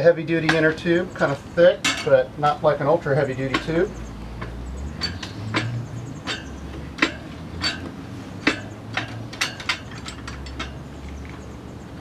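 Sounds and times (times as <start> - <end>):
metallic clinks and knocks: 0.5 - 2.2, 3.5 - 11.5.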